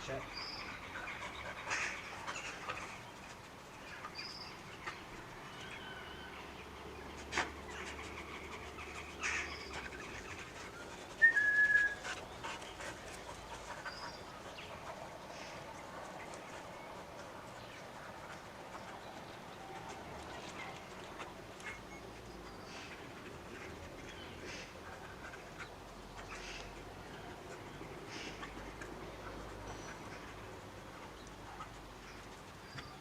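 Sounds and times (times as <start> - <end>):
light background noise: 0.0 - 33.0.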